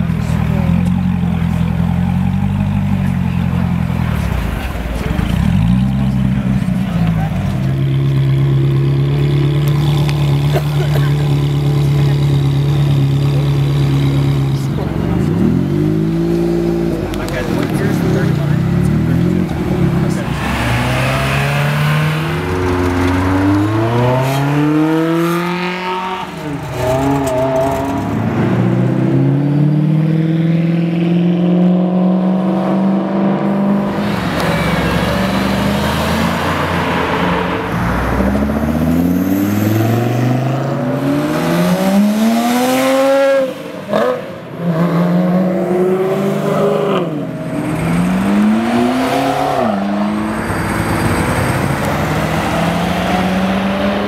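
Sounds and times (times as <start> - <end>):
sports cars accelerating hard: 0.2 - 54.0.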